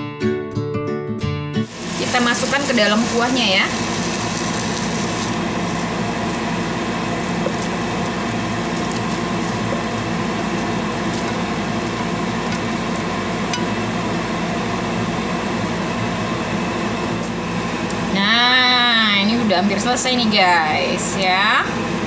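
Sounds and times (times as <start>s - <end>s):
vent fan humming: 1.6s - 22.0s.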